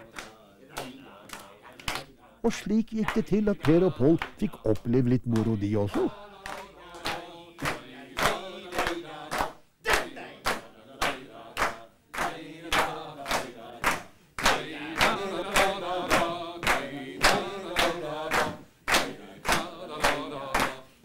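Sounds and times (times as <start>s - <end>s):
group of people singing: 0.0s - 21.0s
hands clapping in rhythm: 0.0s - 21.0s.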